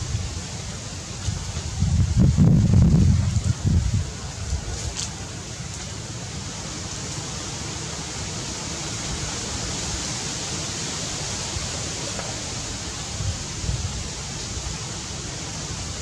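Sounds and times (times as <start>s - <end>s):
outdoor rushing hiss: 0.0s - 16.0s.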